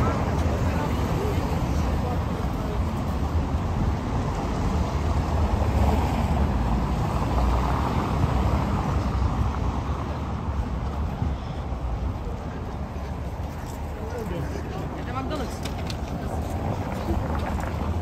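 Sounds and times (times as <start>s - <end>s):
car tyres on wet cobblestones: 0.0s - 18.0s
city street noise: 0.0s - 18.0s.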